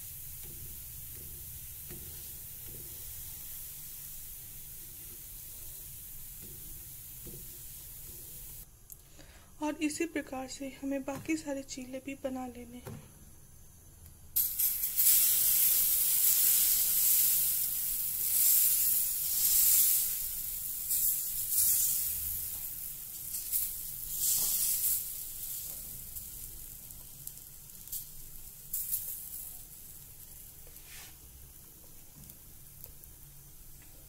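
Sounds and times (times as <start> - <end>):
pancake sizzling on a griddle: 0.0 - 8.7, 14.4 - 34.0.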